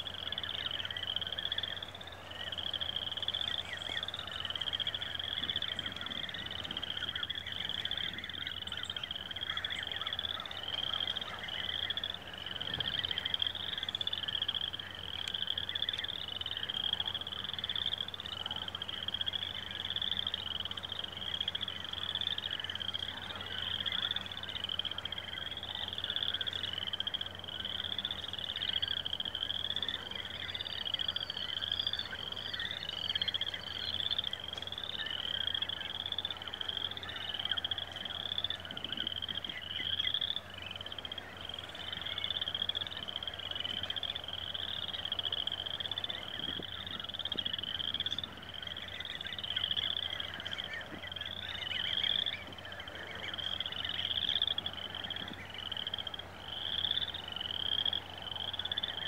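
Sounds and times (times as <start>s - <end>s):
frogs calling in high trills: 0.0s - 59.0s.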